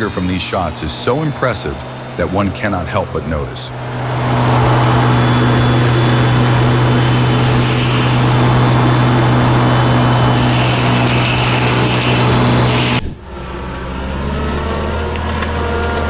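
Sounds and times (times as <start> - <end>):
tractor mulcher droning: 0.0 - 13.9.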